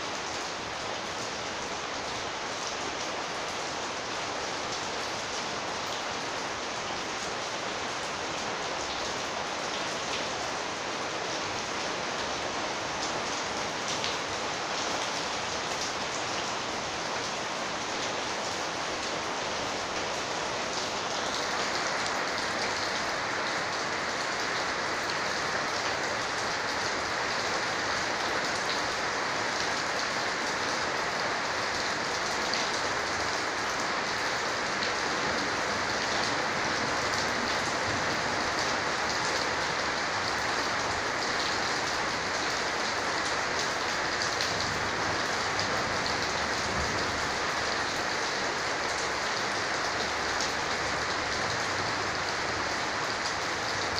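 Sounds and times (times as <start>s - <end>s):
heavy rain on a corrugated roof: 0.0s - 53.9s.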